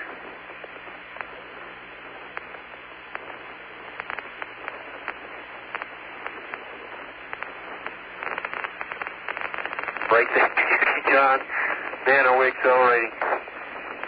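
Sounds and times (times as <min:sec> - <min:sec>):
faint low hum: 0:00.0 - 0:14.0
radio static hiss: 0:00.0 - 0:14.0
sharp clicks and crackles: 0:00.0 - 0:14.0.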